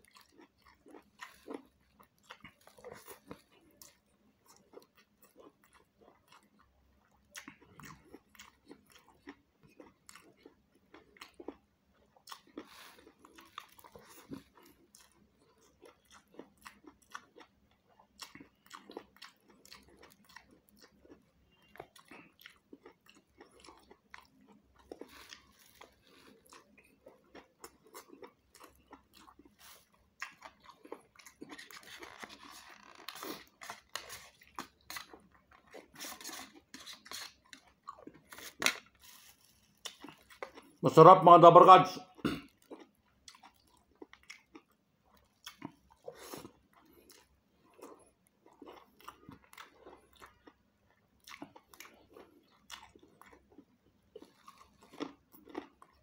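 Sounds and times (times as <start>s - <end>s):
person chewing food: 0.0s - 40.8s, 42.0s - 56.0s.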